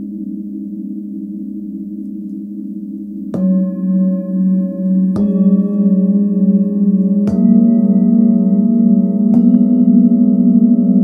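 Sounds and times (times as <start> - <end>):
singing bowls ringing: 0.0 - 11.0.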